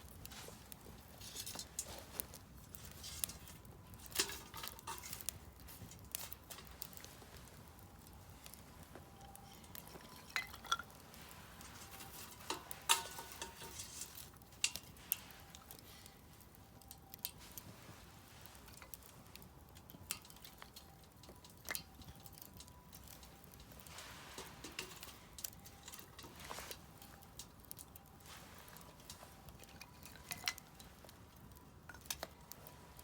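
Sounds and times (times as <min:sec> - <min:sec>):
faint steady hiss: 0:00.0 - 0:33.0
firewood crackling and popping: 0:00.0 - 0:33.0.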